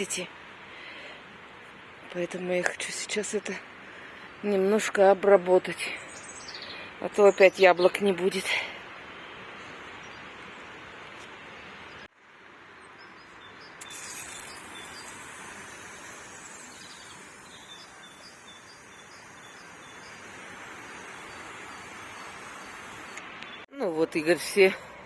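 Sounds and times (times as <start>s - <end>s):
outdoor background hiss: 0.0s - 25.0s
small birds chirping: 2.1s - 12.1s, 12.8s - 23.7s.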